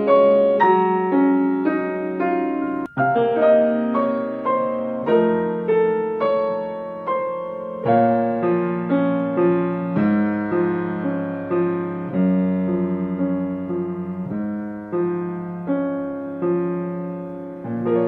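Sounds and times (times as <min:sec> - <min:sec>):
piano playing slow ballad: 0:00.0 - 0:18.0.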